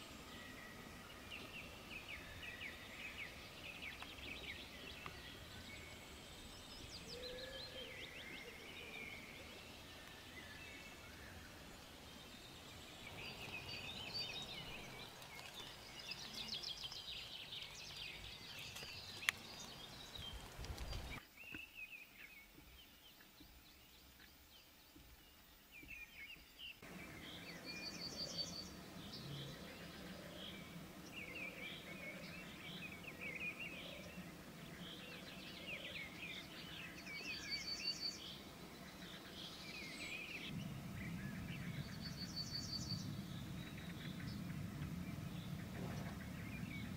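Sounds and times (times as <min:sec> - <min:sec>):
songbirds chirping and trilling: 0:00.0 - 0:46.9.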